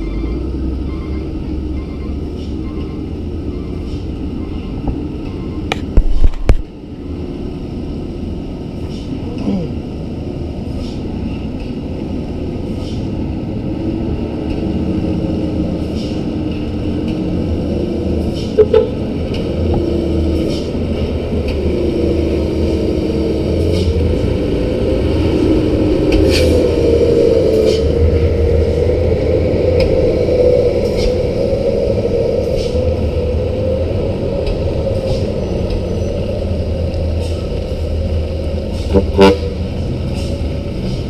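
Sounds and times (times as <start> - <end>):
dump truck diesel engines: 0.0 - 41.0.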